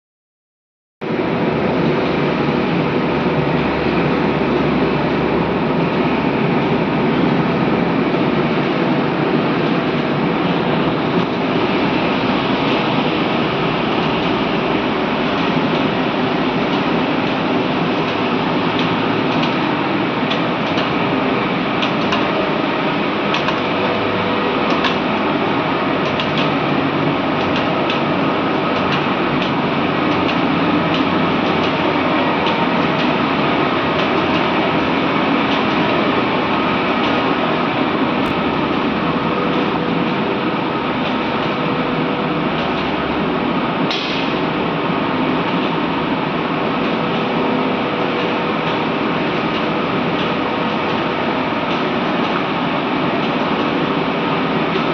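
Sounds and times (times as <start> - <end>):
boiler plant machinery: 1.0 - 54.9.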